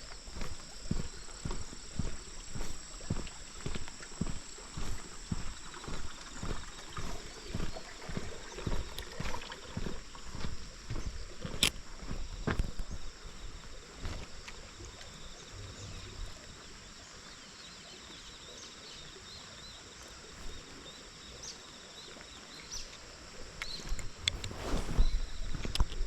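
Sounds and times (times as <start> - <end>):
footsteps outdoors: 0.0 - 17.0, 20.2 - 21.0, 22.7 - 26.0
high-pitched insect chorus: 0.0 - 26.0.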